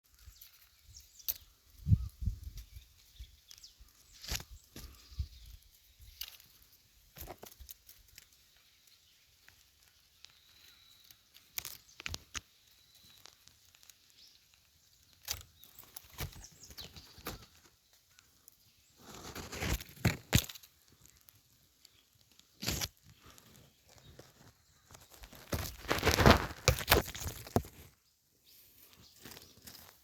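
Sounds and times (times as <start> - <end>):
rustling and crackling: 2.4 - 30.0.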